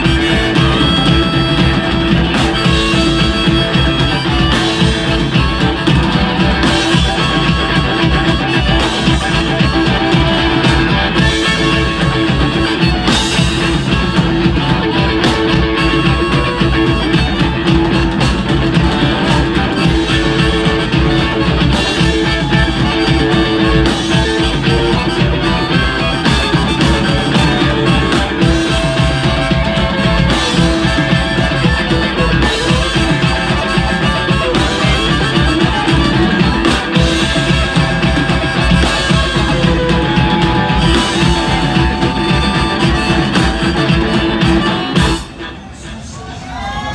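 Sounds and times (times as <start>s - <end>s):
blues band playing: 0.0s - 45.8s
guitar: 0.0s - 46.9s.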